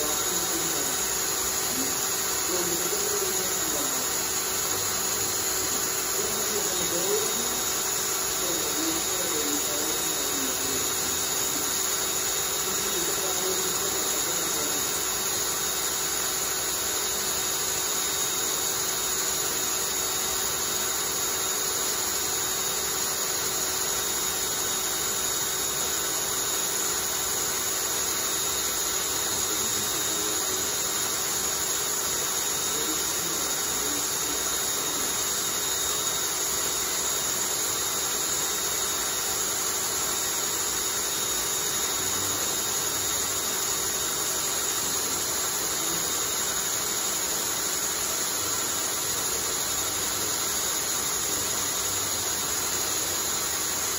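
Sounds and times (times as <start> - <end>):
cordless drill whirring: 0.0 - 53.9.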